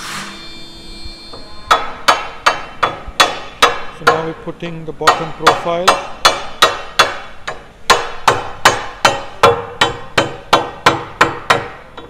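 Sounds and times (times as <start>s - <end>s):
rubber mallet tapping metal: 1.7s - 4.4s, 5.0s - 12.0s.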